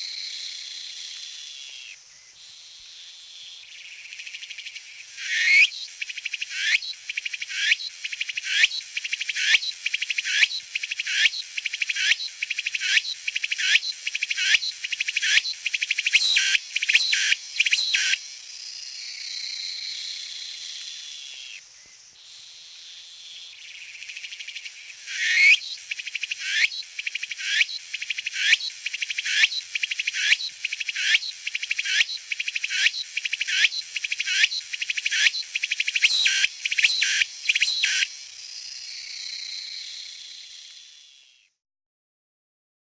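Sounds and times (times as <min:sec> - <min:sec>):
cicada singing: 0:03.6 - 0:21.6, 0:23.2 - 0:41.5.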